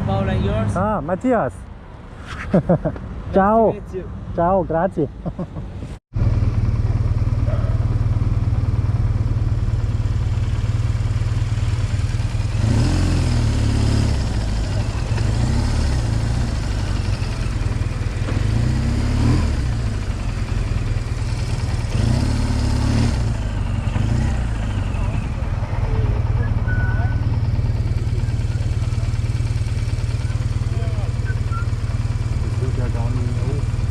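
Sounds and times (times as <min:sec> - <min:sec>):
motorcycle engine revving: 0:06.1 - 0:33.9.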